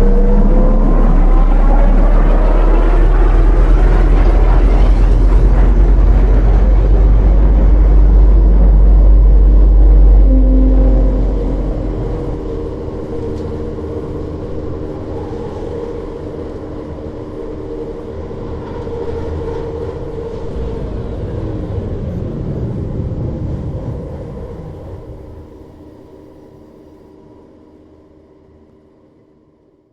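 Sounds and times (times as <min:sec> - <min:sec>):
steady multi-tone drone: 0:00.0 - 0:27.0.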